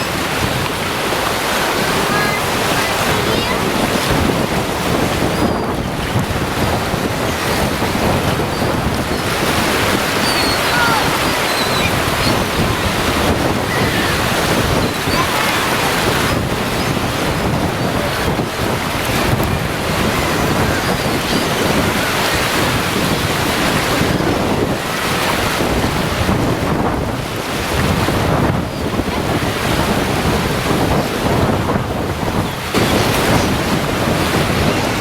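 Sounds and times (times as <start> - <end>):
surf washing onto beach: 0.0 - 35.0
wind buffeting microphone: 0.0 - 35.0.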